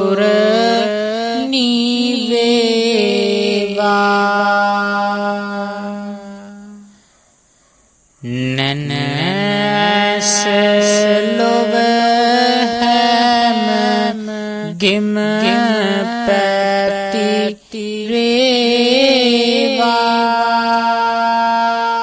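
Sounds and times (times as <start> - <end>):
person chanting: 0.0 - 7.1, 8.2 - 22.0.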